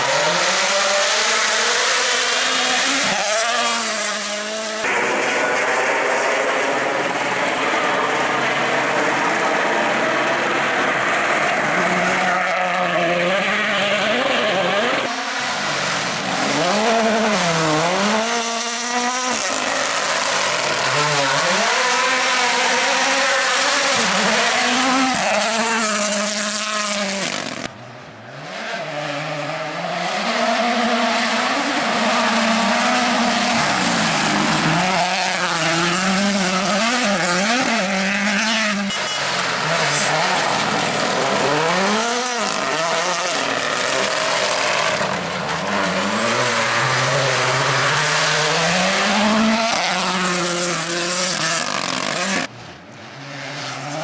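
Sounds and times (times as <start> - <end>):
rally car engines revving hard: 0.0 - 54.0.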